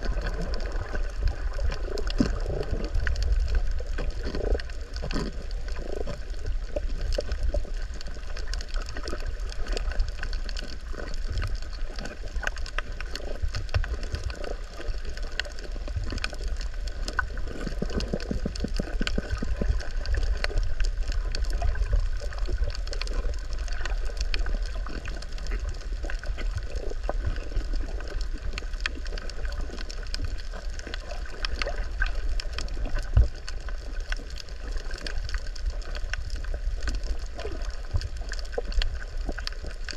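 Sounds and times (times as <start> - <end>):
faint scattered clicks and crackles: 0.0 - 39.9
low rumble of moving water: 0.0 - 39.9.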